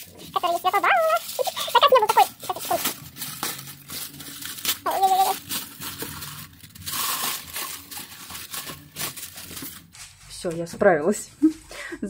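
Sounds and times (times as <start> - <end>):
packaging rustling and crinkling: 0.0 - 10.7.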